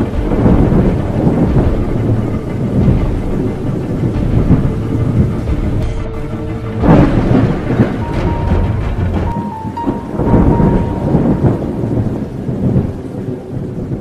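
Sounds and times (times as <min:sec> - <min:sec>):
rolling thunder: 0:00.0 - 0:14.0
steady rain: 0:00.0 - 0:14.0
thunder crack: 0:00.0 - 0:14.0.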